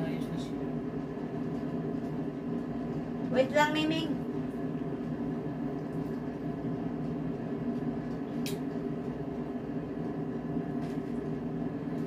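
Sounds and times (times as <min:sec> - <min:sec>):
room appliance humming: 0:00.0 - 0:12.0.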